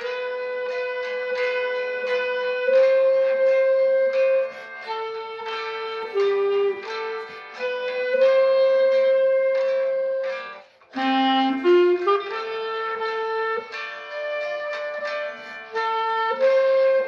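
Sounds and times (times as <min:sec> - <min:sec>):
clarinet playing hymn melody: 0:00.0 - 0:17.0
classical guitar accompaniment: 0:00.0 - 0:17.0.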